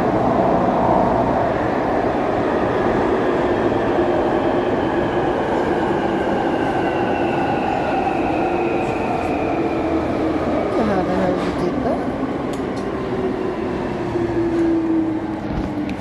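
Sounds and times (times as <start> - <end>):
tube train rumbling: 0.0 - 16.0.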